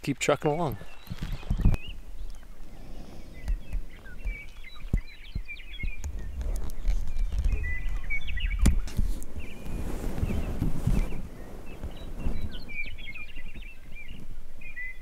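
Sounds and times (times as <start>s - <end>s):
small birds twittering: 0.0s - 15.0s
low rumble on microphone: 0.8s - 14.9s.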